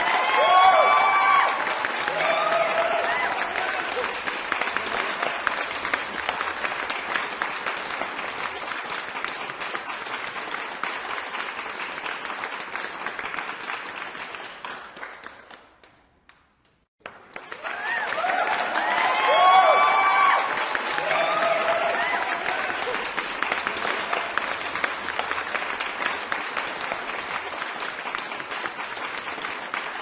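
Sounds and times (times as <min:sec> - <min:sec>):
crowd applauding: 0:00.0 - 0:15.6, 0:17.0 - 0:30.0.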